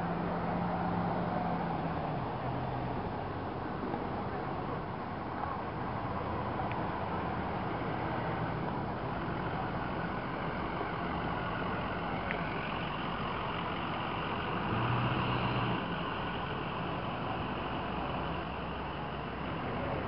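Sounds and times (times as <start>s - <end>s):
fire truck engines: 0.0s - 20.0s
road noise: 0.0s - 20.0s.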